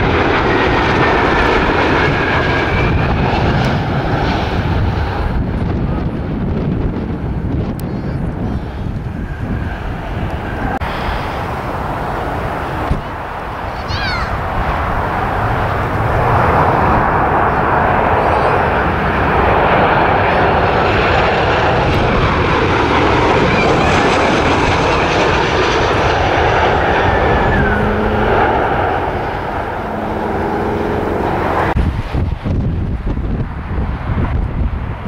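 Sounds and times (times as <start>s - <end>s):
jet airliner roar with whine: 0.0s - 35.0s.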